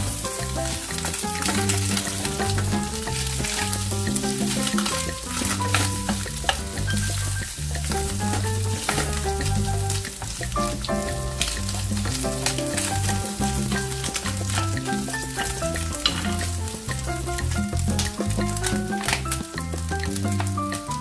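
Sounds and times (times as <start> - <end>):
background music with bass: 0.0 - 21.0
food sizzling in a pan: 0.0 - 21.0.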